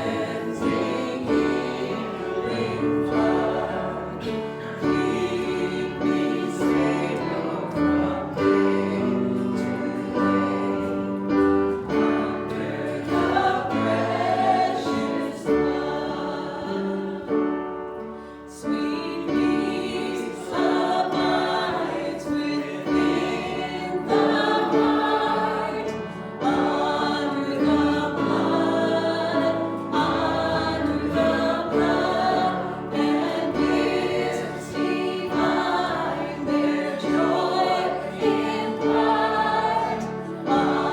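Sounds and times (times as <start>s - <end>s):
group singing a hymn: 0.0s - 40.9s.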